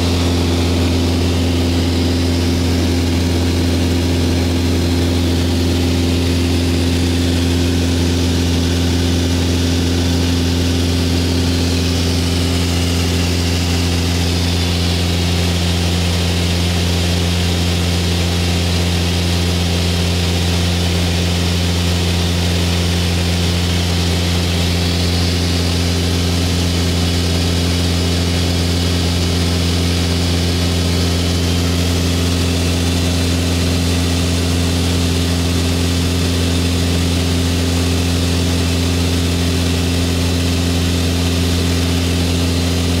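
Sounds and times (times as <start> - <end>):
aircraft engine and propeller hum: 0.0 - 43.0.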